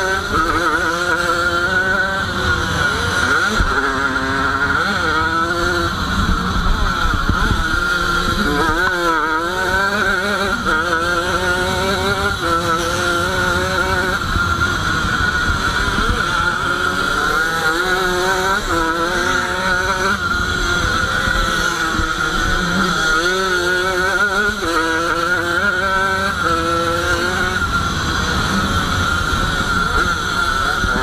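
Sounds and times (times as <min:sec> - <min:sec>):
wind rumble on microphone: 0:00.0 - 0:23.0, 0:25.9 - 0:31.0
two-stroke engine revving: 0:00.0 - 0:31.0.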